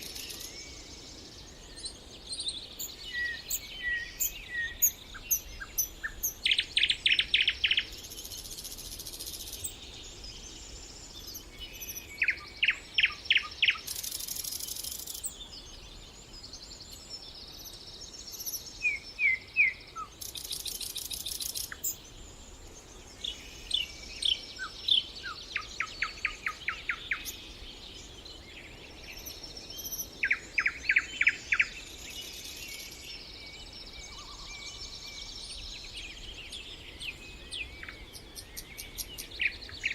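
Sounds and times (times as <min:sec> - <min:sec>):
background hiss: 0:00.0 - 0:39.9
songbirds singing: 0:00.0 - 0:39.9.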